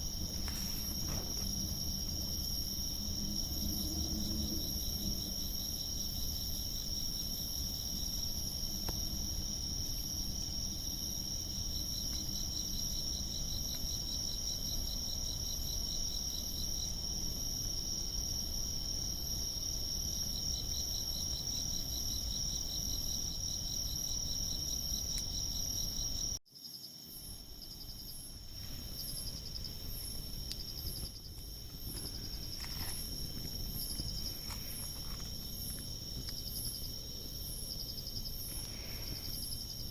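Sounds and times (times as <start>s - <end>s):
crickets and night insects chirping: 0.0s - 39.9s.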